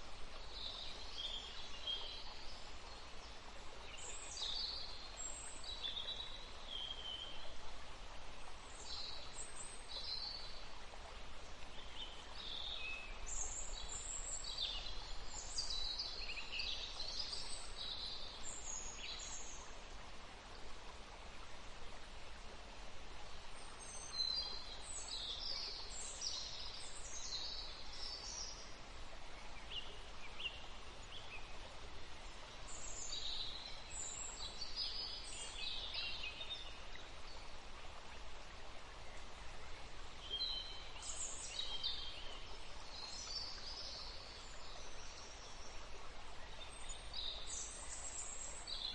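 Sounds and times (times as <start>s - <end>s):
forest ambience hiss: 0.0s - 48.9s.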